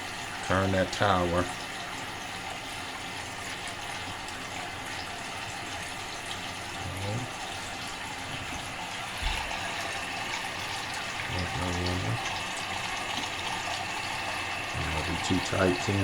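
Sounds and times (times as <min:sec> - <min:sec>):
water hissing into toilet tank: 0:00.0 - 0:16.0.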